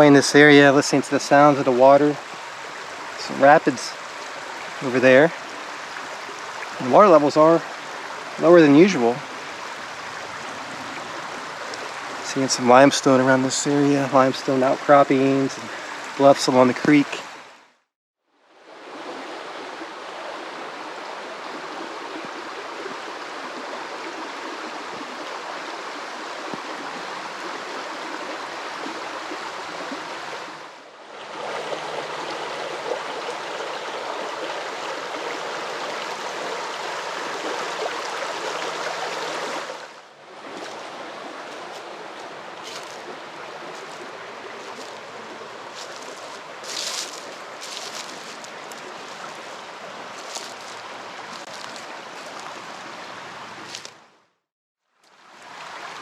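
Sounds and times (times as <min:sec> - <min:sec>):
creek water rushing over rapids: 0:00.0 - 0:17.7, 0:18.5 - 0:54.2, 0:55.0 - 0:56.0.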